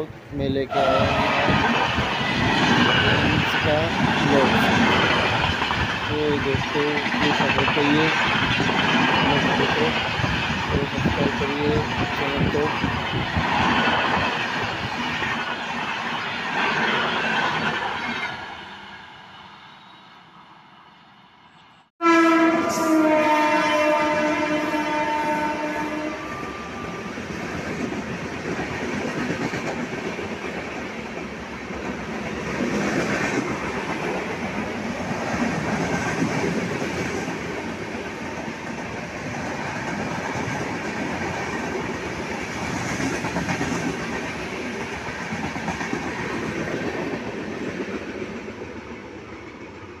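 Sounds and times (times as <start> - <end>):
train wheels rumbling on rails: 0.0 - 19.2, 22.6 - 50.0.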